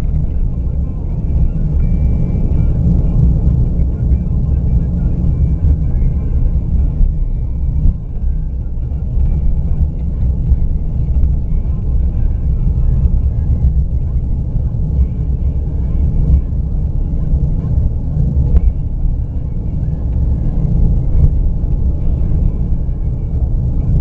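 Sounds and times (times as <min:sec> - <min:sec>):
car rumbling on dirt track: 0:00.0 - 0:24.0.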